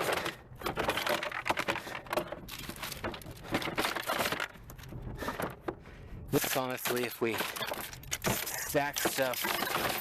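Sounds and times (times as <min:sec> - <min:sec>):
car parts clicking and knocking: 0:00.0 - 0:10.0.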